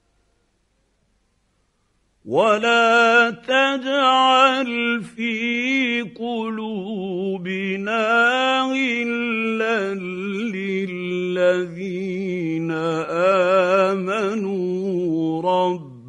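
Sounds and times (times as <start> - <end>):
man chanting melodically: 2.3 - 16.0.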